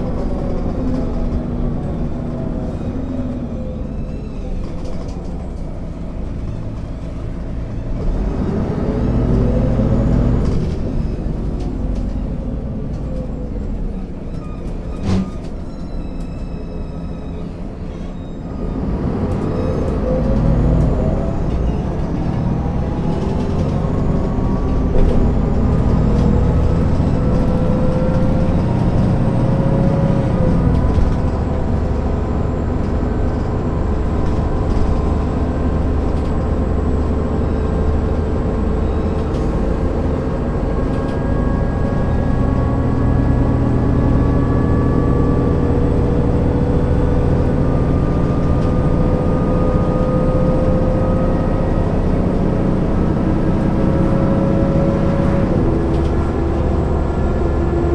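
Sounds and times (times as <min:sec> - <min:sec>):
bus diesel engine accelerating: 0:00.0 - 0:57.9.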